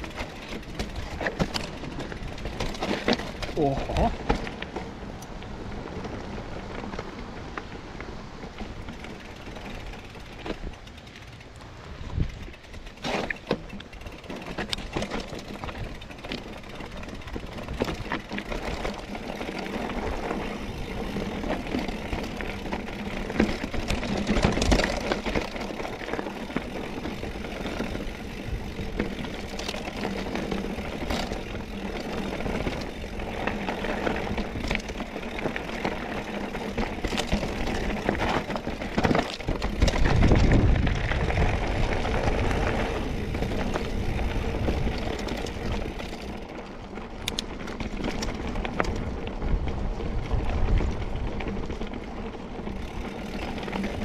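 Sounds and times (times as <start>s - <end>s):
bike knocks and rattles: 0.0s - 5.1s, 12.4s - 54.0s
bike tyre rolling noise: 0.0s - 54.0s.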